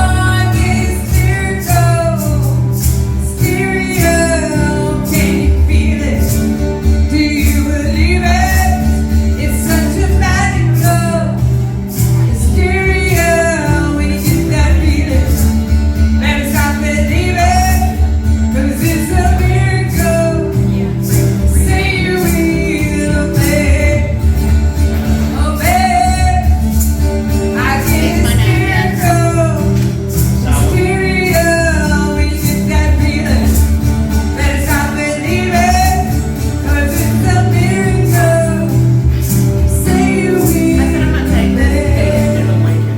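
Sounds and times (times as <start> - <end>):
heavy bass: 0.0 - 42.9
person singing: 0.0 - 42.9
steady drum beat: 0.0 - 42.9.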